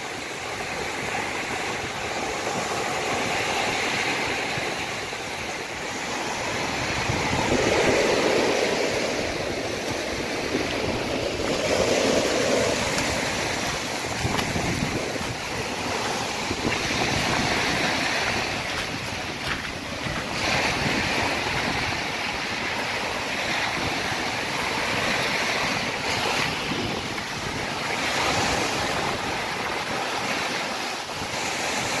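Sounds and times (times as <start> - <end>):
storm waves breaking on pebbles: 0.0 - 32.0
wind buffeting microphone: 0.0 - 32.0.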